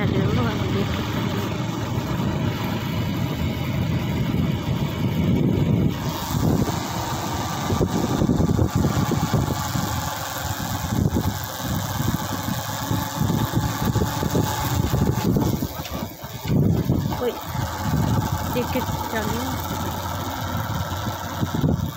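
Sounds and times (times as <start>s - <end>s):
vehicle engine and road noise: 0.0s - 21.9s.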